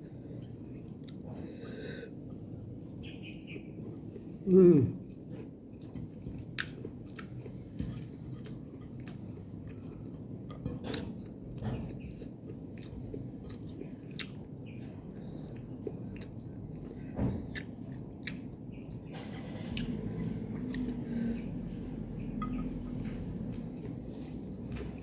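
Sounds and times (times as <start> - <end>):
person chewing food: 0.0 - 3.2, 3.8 - 25.0.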